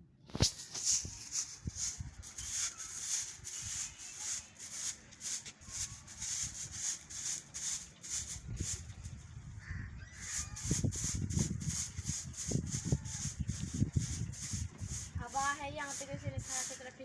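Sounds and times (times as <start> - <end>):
hand broom sweeping: 0.3 - 9.2, 10.2 - 17.0.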